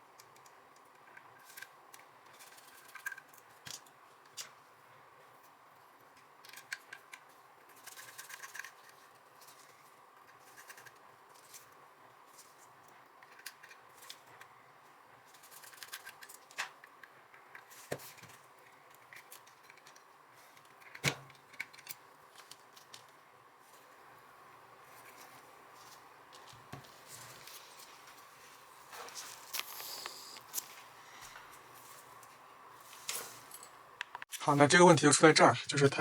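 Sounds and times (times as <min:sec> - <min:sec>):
scratchy handling noises: 0:05.3 - 0:34.4.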